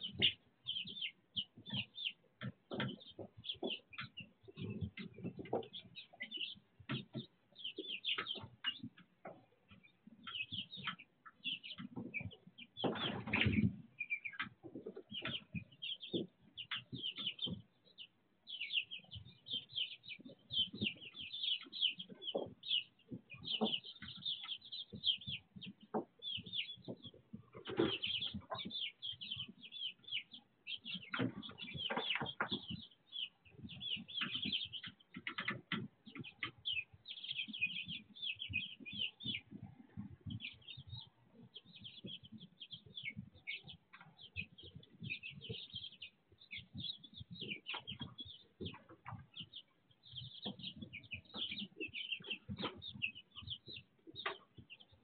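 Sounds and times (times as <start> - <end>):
chicks peeping: 0.0 - 55.0.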